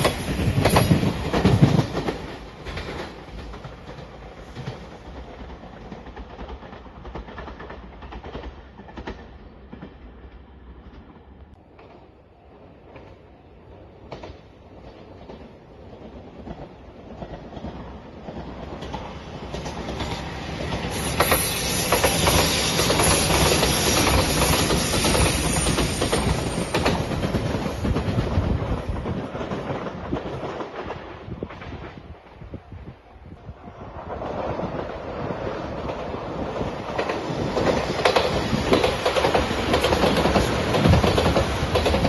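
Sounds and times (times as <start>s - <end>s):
train wheels clacking on track: 0.0s - 11.1s, 14.0s - 32.0s, 34.2s - 42.0s.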